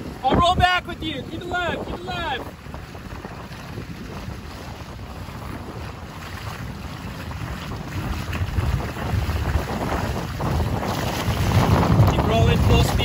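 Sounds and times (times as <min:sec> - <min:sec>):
water rushing past motorboat: 0:00.0 - 0:13.0
wind buffeting microphone: 0:00.0 - 0:13.0.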